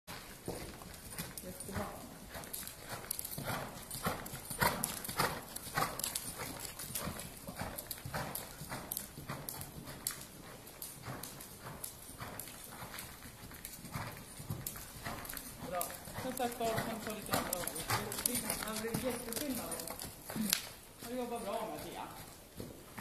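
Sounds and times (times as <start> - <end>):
horse hoofbeats on sand: 0.1 - 23.0.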